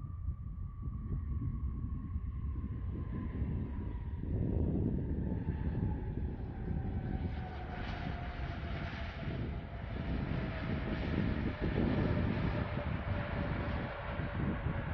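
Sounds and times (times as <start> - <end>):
jet engines rumbling and whining: 0.0 - 14.9.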